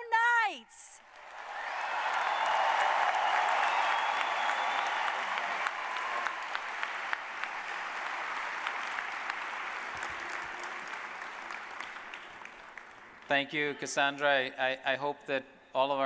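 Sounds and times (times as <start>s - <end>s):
crowd clapping and cheering: 1.0s - 13.9s.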